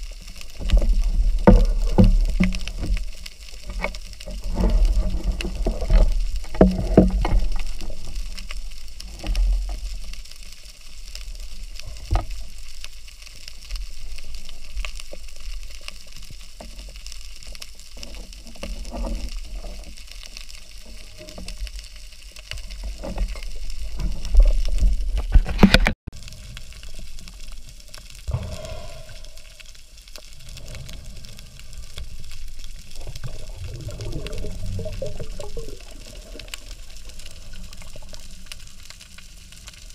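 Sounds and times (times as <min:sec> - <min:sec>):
crackling hiss: 0:00.0 - 0:39.9
underwater rumble: 0:00.0 - 0:39.9.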